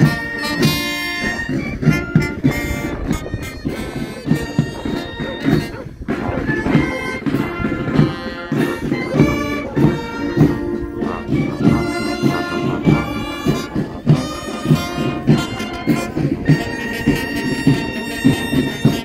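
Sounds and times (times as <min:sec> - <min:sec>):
steady drum beat: 0:00.0 - 0:19.0
wind instruments sustained notes: 0:00.0 - 0:19.0.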